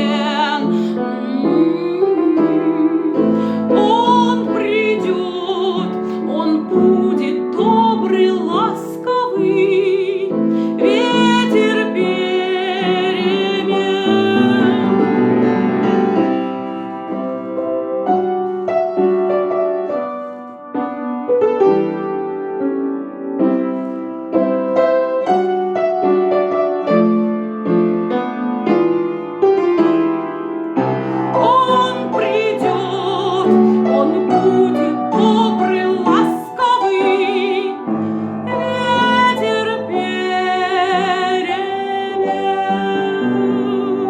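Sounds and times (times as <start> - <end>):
gentle piano melody: 0.0 - 44.0.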